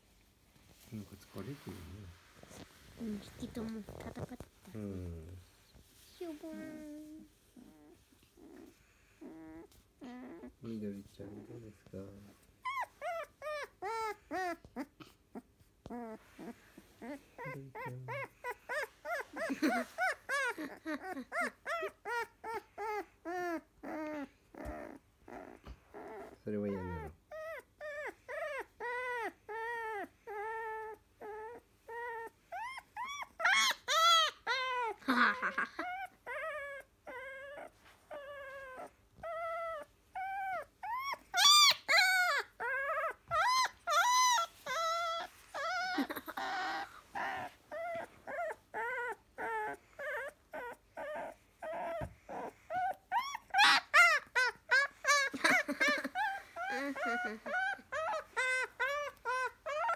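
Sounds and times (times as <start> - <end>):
puppy whining and whimpering: 0.8 - 59.9.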